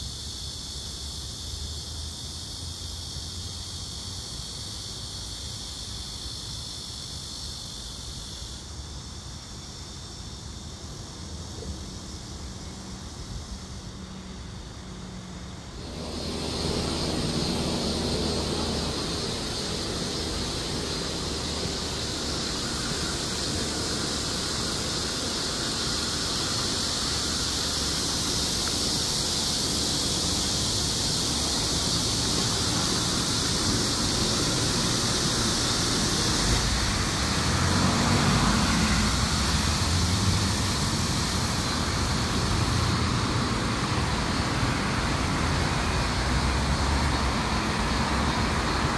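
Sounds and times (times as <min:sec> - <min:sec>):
cicadas buzzing: 0:00.0 - 0:48.9
passing road traffic: 0:09.7 - 0:48.9.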